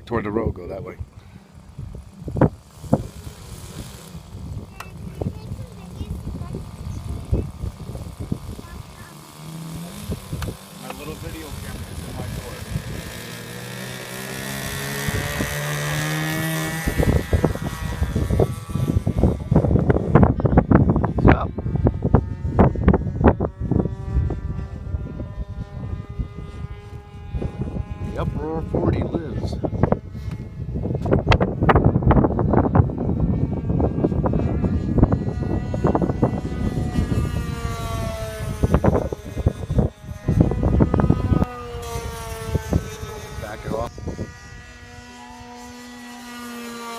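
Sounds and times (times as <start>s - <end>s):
model airplane engine revving: 0.0s - 46.9s
wind buffeting microphone: 0.0s - 46.9s.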